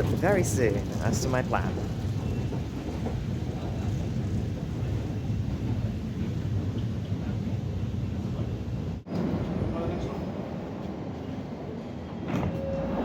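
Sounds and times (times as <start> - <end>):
underground train rumbling in tunnel: 0.0 - 13.0.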